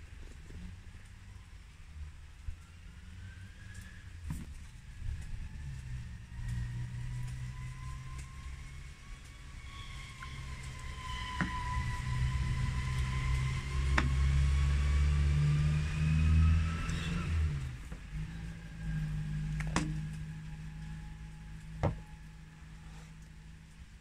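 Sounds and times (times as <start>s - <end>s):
engine running with whine: 0.0s - 24.0s.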